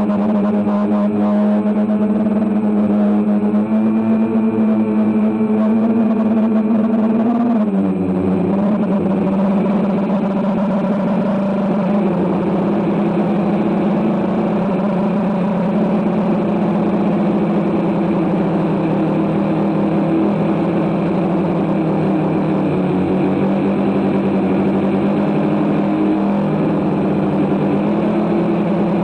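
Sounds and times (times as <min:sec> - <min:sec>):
drone propellers buzzing: 0:00.0 - 0:29.0.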